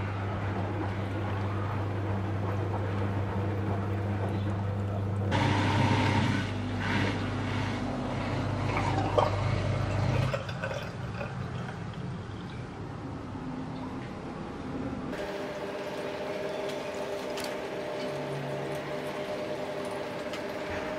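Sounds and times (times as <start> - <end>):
dishwasher pump hum: 0.0 - 12.7, 15.2 - 20.9
drain pump running: 0.0 - 12.8, 15.2 - 20.9.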